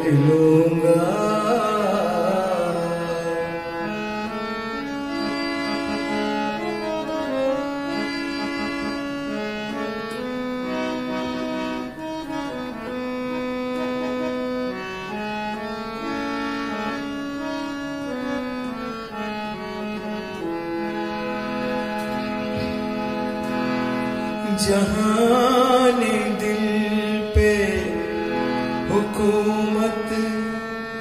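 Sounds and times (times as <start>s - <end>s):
harmonium melody: 0.0s - 31.0s.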